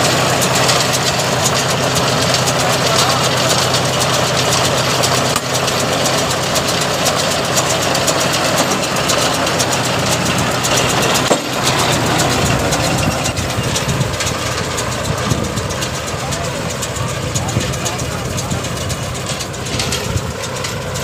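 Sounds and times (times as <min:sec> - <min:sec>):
baler mechanism clattering: 0:00.0 - 0:21.0
tractor diesel engine running: 0:00.0 - 0:21.0.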